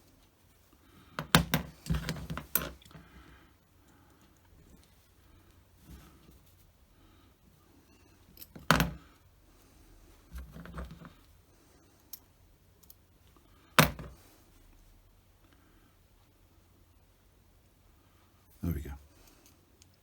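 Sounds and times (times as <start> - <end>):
rustling and handling: 0.0 - 16.4.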